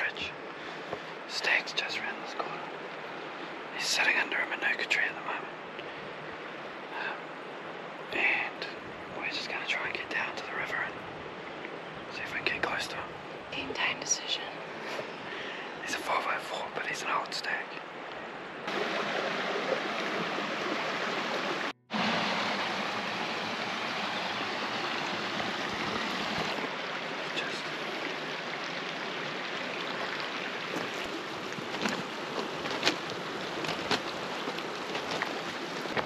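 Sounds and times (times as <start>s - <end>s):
river flowing: 0.0s - 36.0s.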